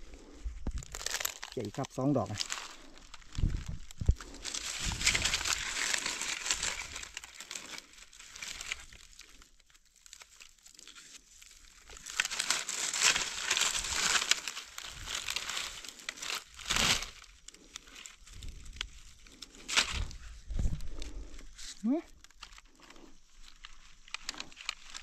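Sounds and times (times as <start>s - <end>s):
dry leaves crackling and rustling: 0.9s - 25.0s.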